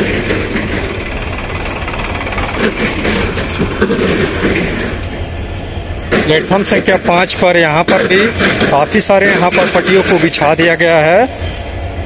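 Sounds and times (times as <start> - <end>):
diesel locomotive idling: 0.0 - 12.0
tractor diesel engine: 0.0 - 12.0.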